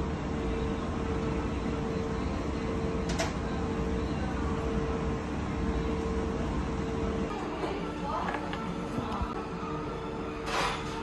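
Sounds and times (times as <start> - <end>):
equipment hum and rumble: 0.0 - 11.0.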